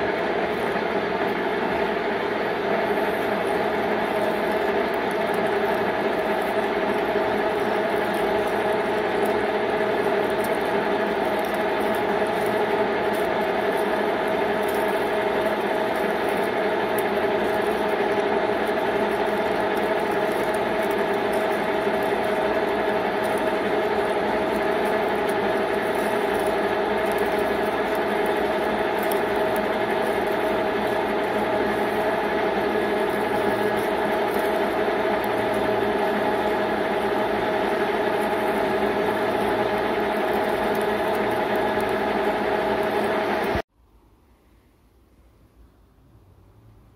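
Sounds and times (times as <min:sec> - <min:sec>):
metal lathe drilling drone: 0:00.0 - 0:43.6.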